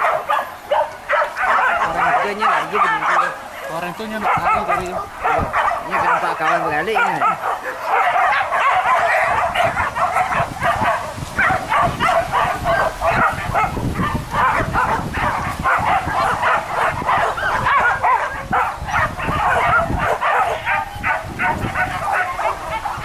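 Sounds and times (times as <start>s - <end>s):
dogs yelping and barking: 0.0s - 23.0s.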